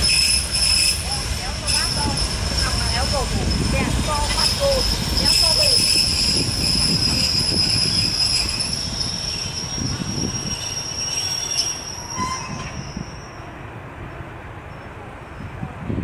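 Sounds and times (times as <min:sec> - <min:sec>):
train wheels squealing: 0:00.0 - 0:13.6
low rumble of train cars: 0:00.0 - 0:16.0.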